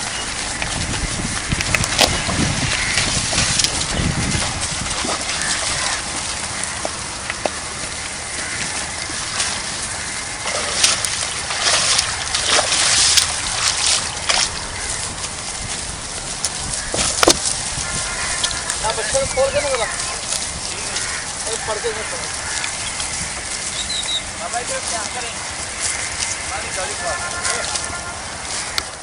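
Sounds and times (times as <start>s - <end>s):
steady water rush: 0.0s - 29.0s
water sloshing and splashing: 0.0s - 29.0s.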